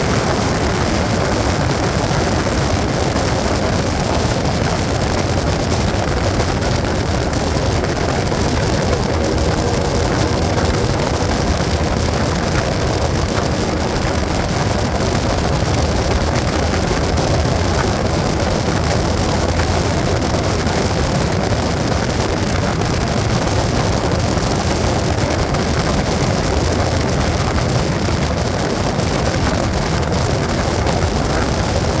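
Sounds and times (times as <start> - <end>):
motorcycle engine drone: 0.0 - 32.0
wind rush on microphone: 0.0 - 32.0.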